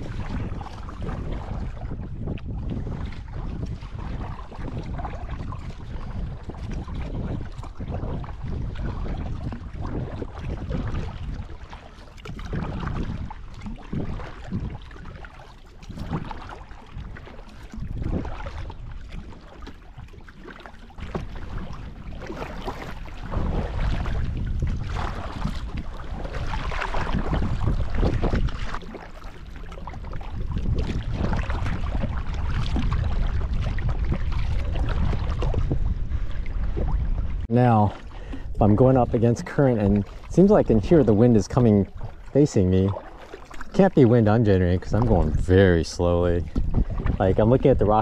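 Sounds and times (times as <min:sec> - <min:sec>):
kayak paddle splashing: 0:00.0 - 0:48.0
water lapping at hull: 0:00.0 - 0:48.0
wind rumbling on microphone: 0:00.0 - 0:48.0.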